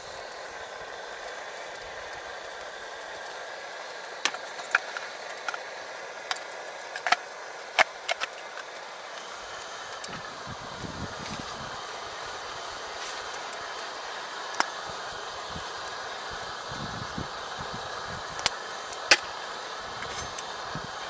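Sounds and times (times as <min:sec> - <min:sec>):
fire hissing: 0:00.0 - 0:21.0
wood fire crackling: 0:00.0 - 0:21.0.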